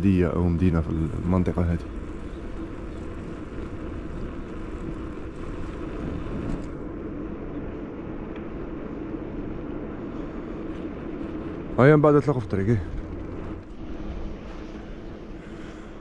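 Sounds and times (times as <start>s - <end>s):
bicycle road noise on asphalt: 0.0s - 16.0s
wind noise: 0.0s - 16.0s.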